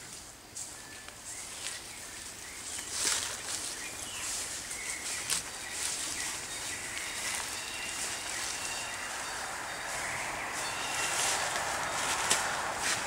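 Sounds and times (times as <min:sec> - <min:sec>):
rustles: 0:00.0 - 0:13.0.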